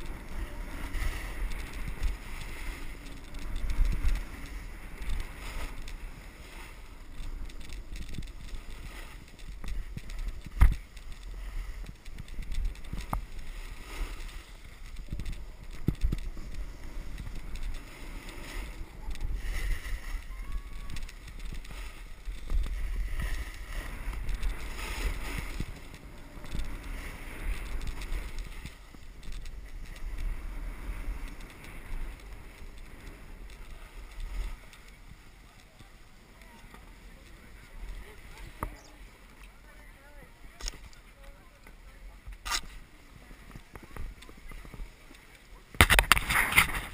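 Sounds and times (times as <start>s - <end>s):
wind buffeting microphone: 0.0s - 41.0s
skis sliding over packed snow: 0.0s - 46.9s.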